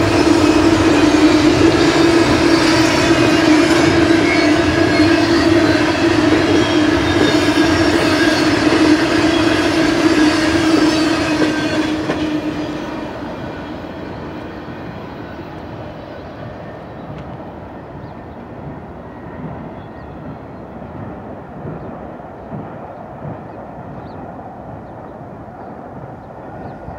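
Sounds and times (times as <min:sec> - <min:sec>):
freight train rolling past: 0:00.0 - 0:26.9.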